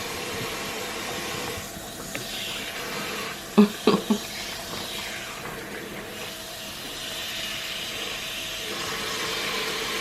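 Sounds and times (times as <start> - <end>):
running water hissing: 0.0 - 10.0.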